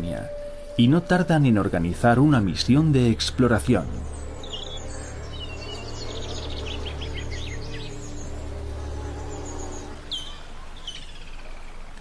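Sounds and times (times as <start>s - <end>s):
low steady drone: 0.0s - 12.0s
small birds chirping: 2.2s - 12.0s.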